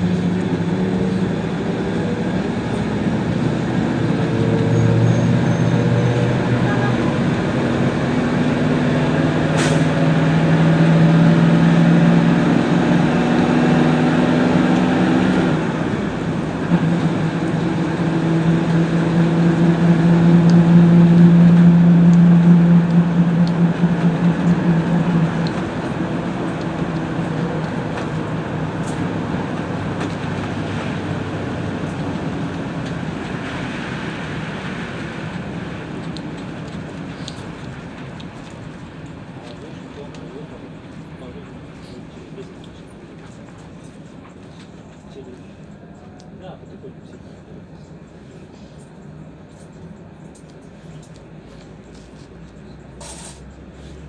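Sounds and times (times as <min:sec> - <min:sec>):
bus engine running under load: 0:00.0 - 0:54.0.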